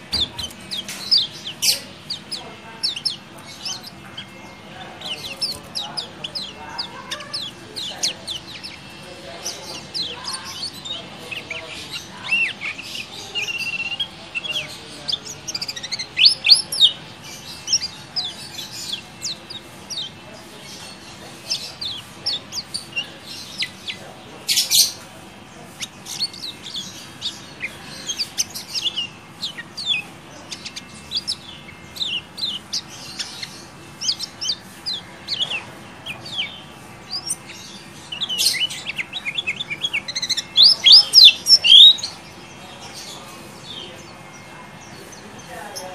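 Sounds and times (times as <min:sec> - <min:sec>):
bird singing high chirps: 0:00.0 - 0:24.0, 0:25.8 - 0:42.5.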